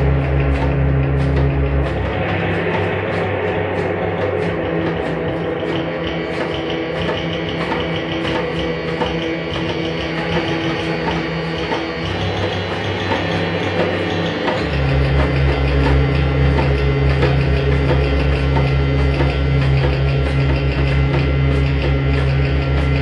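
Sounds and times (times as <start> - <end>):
guitar: 0.0 - 23.0
live band instrumental: 0.0 - 23.0.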